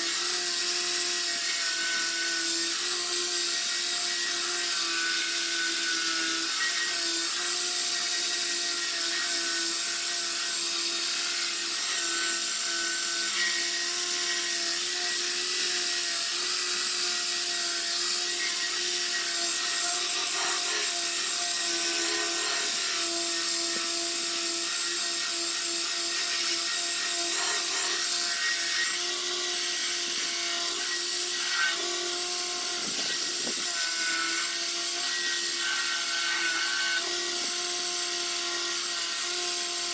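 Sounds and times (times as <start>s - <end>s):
power sander on metal panel: 0.0s - 39.9s.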